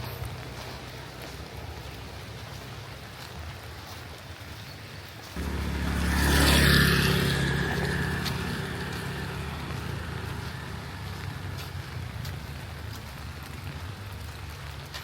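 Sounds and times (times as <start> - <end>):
steady rain: 0.0 - 15.0
vehicle passing on wet road: 0.0 - 15.0.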